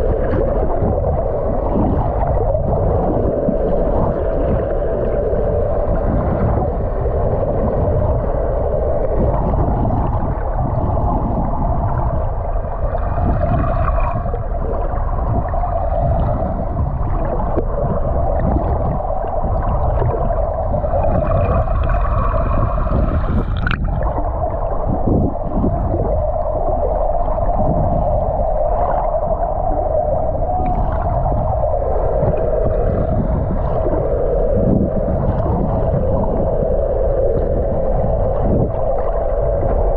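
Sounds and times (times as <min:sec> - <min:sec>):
underwater rush of water: 0:00.0 - 0:39.9.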